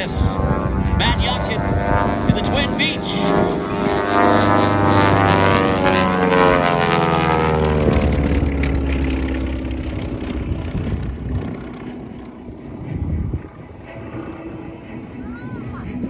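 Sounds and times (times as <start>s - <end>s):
radial aircraft engines passing: 0.0s - 16.0s.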